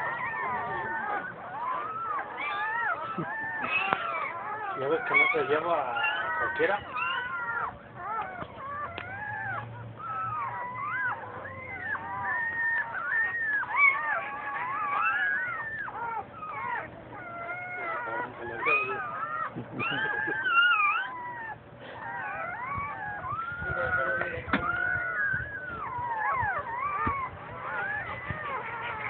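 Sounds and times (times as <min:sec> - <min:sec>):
newborn puppies crying: 0:00.0 - 0:29.0.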